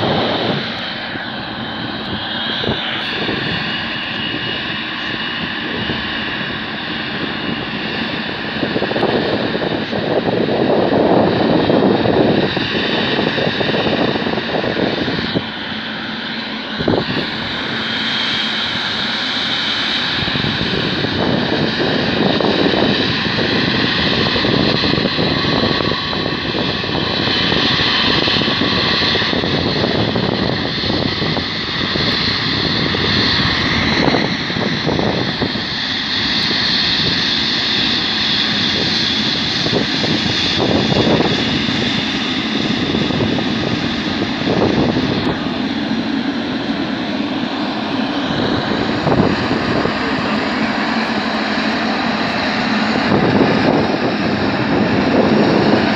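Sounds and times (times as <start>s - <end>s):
jet engines taxiing: 0.0s - 55.9s.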